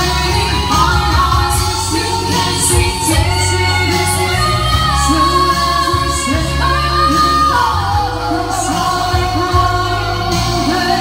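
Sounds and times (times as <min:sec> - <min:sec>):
bass line: 0:00.0 - 0:11.0
electric guitar: 0:00.0 - 0:11.0
women singing: 0:00.0 - 0:11.0.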